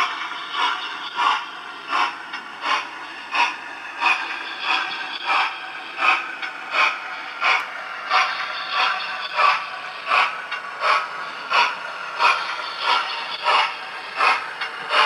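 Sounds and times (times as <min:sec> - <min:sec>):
model locomotive hissing puffs: 0:00.0 - 0:15.0.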